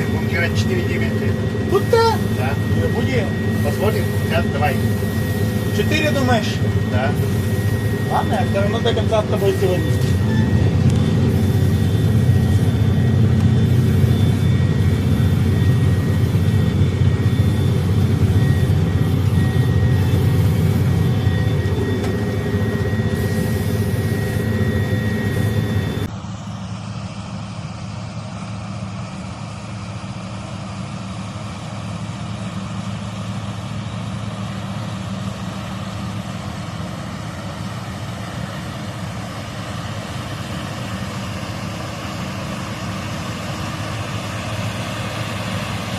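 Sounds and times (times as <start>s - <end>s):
high whine: 0.0s - 28.6s, 33.9s - 45.9s
combine harvester diesel engine: 0.0s - 45.9s.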